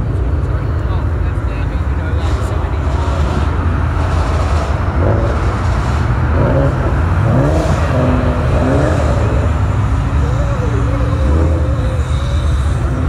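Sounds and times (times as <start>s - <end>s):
passing car engines rumbling: 0.0s - 13.0s.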